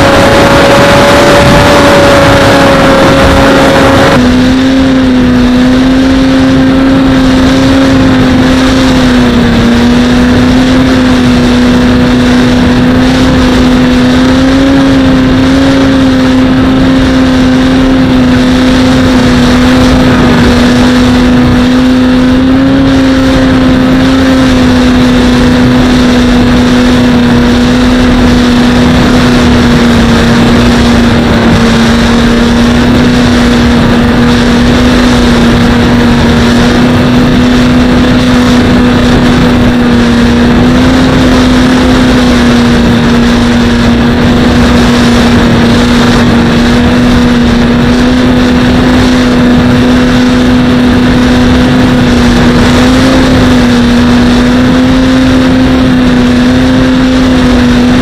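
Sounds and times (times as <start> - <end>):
electric motor propeller whine: 0.0 - 58.0
wind rush on microphone: 0.0 - 58.0.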